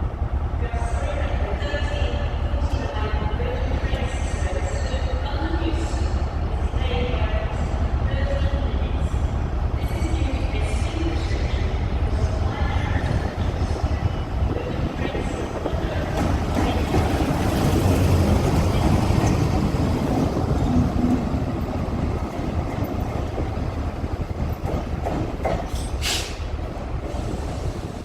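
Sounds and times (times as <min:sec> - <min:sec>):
diesel locomotive passing: 0:00.0 - 0:28.0.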